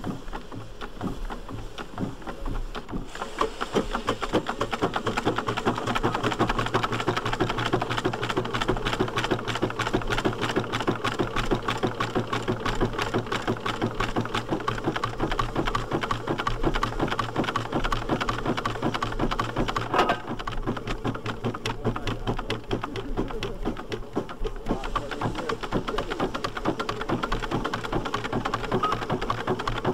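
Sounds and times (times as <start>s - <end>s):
steam traction engine running: 0.0s - 29.9s.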